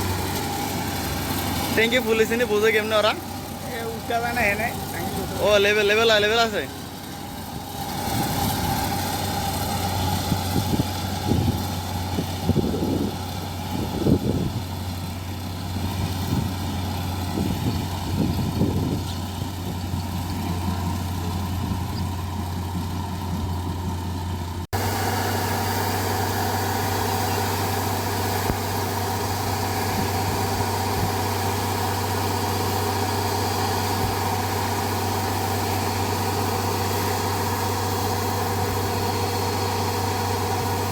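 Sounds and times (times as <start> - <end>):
harvester engine running: 0.0 - 40.9.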